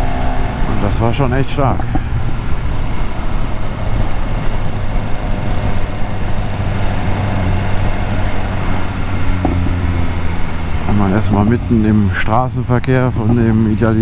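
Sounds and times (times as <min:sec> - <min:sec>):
motorcycle engine running: 0:00.0 - 0:14.0
wind rushing over microphone: 0:00.0 - 0:14.0.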